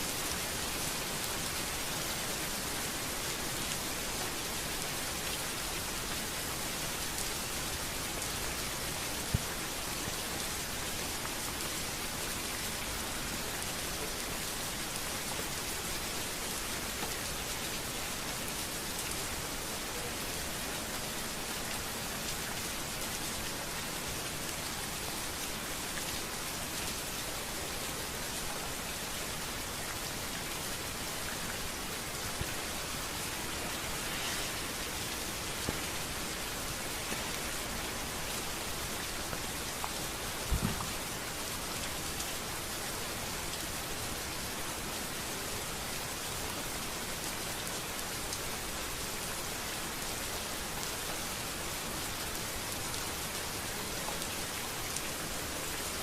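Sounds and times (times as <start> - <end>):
rain falling on street: 0.0 - 56.0.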